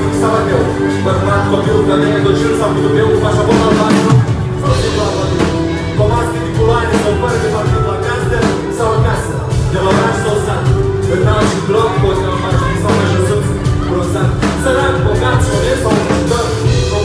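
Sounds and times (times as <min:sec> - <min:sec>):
drums: 0:00.0 - 0:17.0
keyboard: 0:00.0 - 0:17.0
lead vocal singing: 0:00.0 - 0:17.0.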